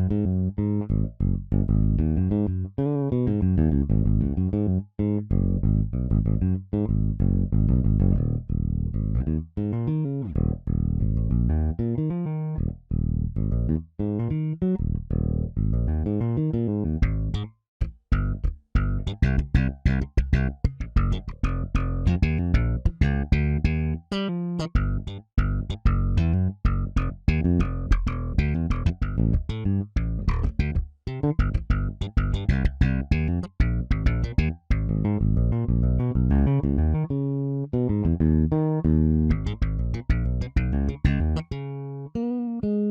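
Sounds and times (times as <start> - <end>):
funk electric bass line: 0.0 - 42.9.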